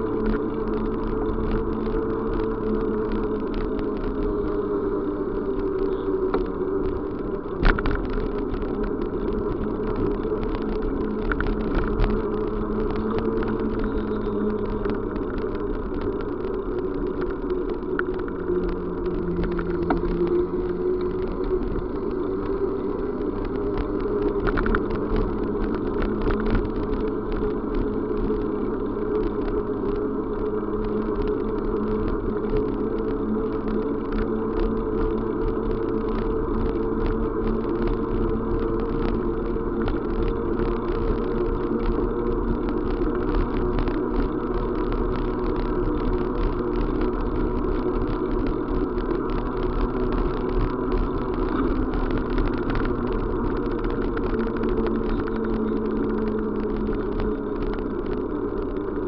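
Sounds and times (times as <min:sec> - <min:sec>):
faint clicks: 0:00.0 - 0:59.0
vehicle running drone: 0:00.0 - 0:59.0.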